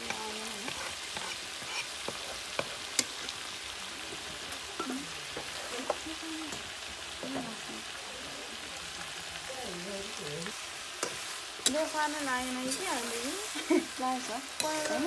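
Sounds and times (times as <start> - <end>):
curry sizzling in hot oil: 0.0 - 15.0.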